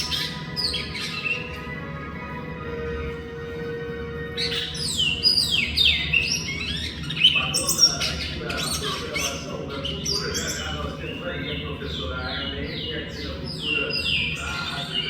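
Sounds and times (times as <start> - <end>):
finch singing whistled notes: 0.0 - 2.0, 4.2 - 15.0.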